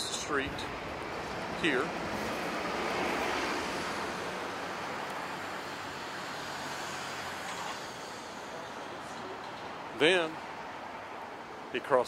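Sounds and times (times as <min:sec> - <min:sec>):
vehicle engine hum and tyre noise: 0:00.0 - 0:12.0.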